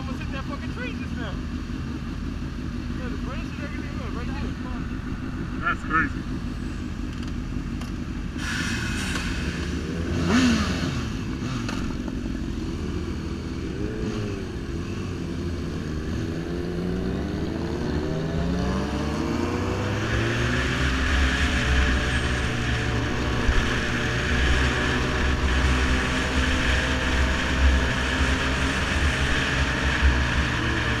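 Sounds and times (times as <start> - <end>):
motorcycle engine revving and accelerating: 2.4 - 31.0.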